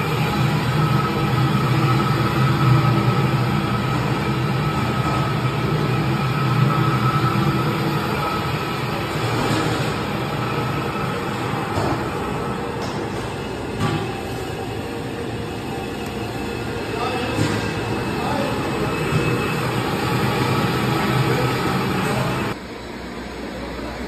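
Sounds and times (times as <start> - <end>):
faint high whine: 0.0 - 22.6.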